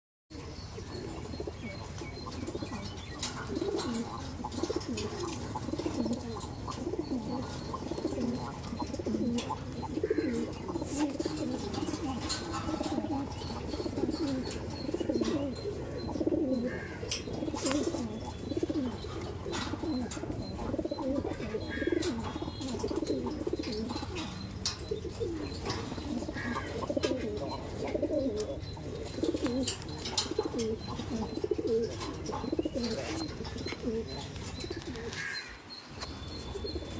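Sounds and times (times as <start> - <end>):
pigeons cooing: 0.3 - 36.9.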